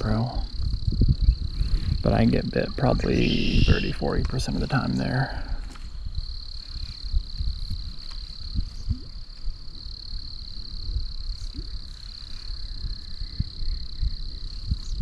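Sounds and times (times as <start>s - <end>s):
insects trilling: 0.0s - 15.0s
rumbling and thumps on microphone: 0.0s - 15.0s.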